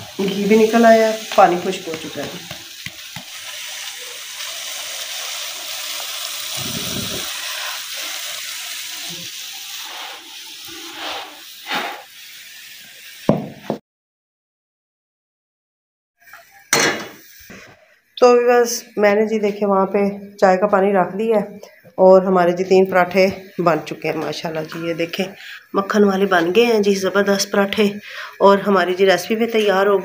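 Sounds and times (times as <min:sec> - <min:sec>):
food sizzling in a pan: 0:00.0 - 0:13.8, 0:16.2 - 0:30.0.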